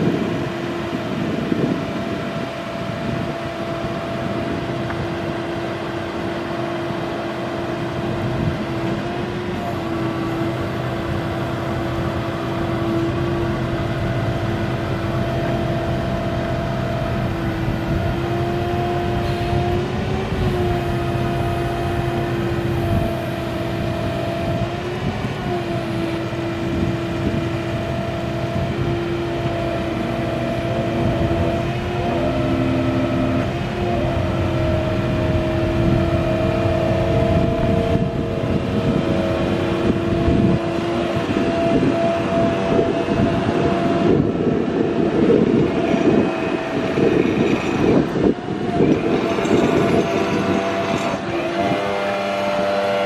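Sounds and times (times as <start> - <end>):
steady whine: 0.0 - 53.0
truck engine running: 0.0 - 53.0.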